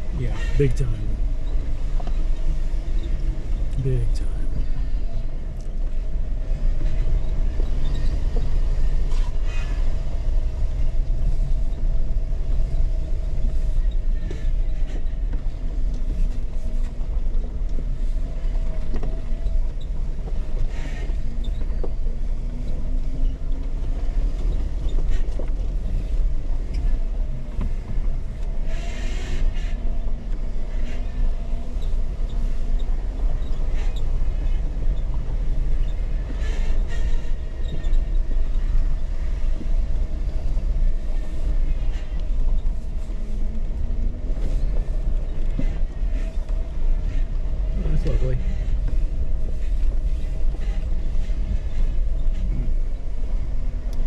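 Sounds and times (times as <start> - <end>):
engine low rumble: 0.0 - 54.0.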